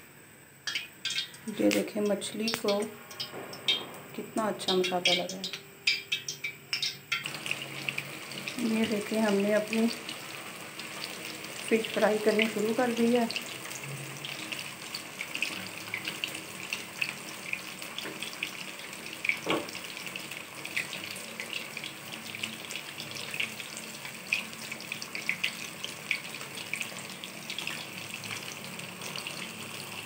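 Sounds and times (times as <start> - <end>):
fish deep-frying in hot oil: 0.5 - 30.0.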